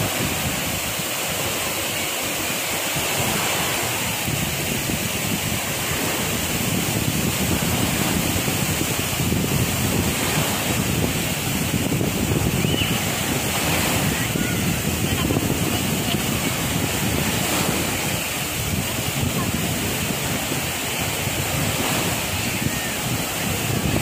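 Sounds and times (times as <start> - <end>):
small waves breaking: 0.0 - 24.0
wind buffeting microphone: 0.0 - 24.0.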